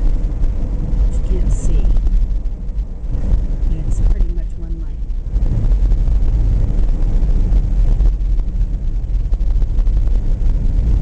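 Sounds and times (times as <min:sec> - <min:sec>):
tyres on snowy road: 0:00.0 - 0:11.0
vehicle engine rumble: 0:00.0 - 0:11.0.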